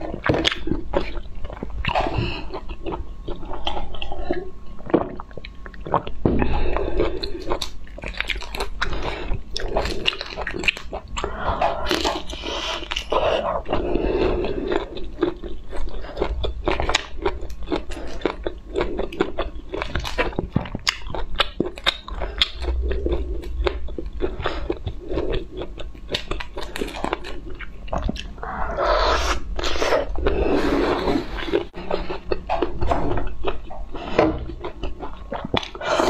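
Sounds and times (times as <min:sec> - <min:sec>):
chewing and crunching: 0:00.0 - 0:36.0.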